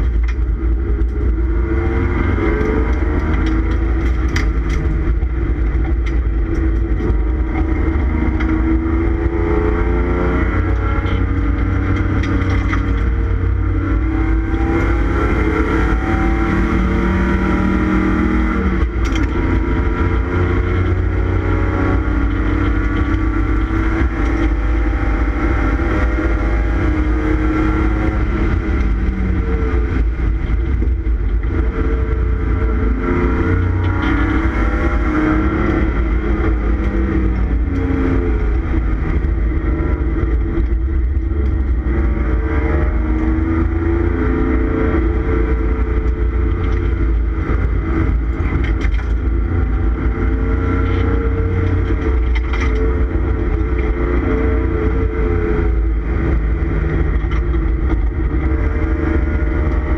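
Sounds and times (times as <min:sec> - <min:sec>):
heavy low rumble: 0:00.0 - 0:59.9
race car engine revving: 0:00.0 - 0:59.9.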